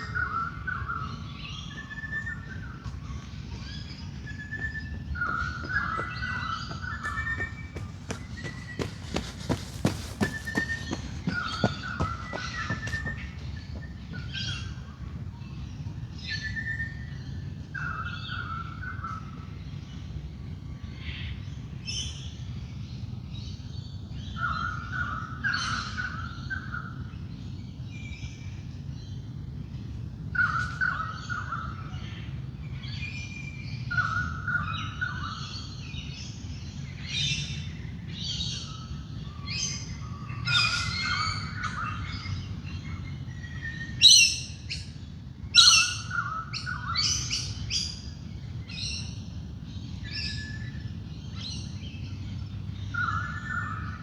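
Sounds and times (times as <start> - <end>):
birds calling and singing: 0.0 - 54.0
steady low hum: 0.0 - 54.0.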